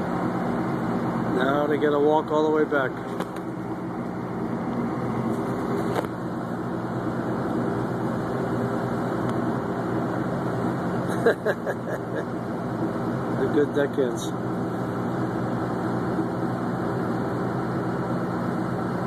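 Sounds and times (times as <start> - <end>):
boat diesel engine droning: 0.0 - 19.0.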